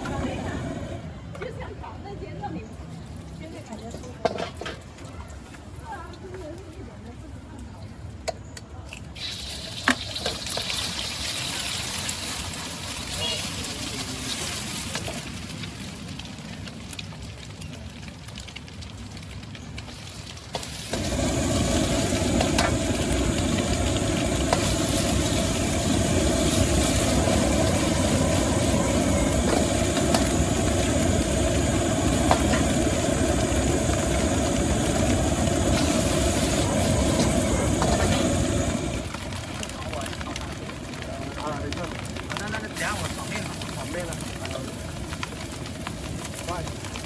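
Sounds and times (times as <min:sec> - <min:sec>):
gas burner roaring: 0:00.0 - 0:01.6, 0:09.0 - 0:47.0.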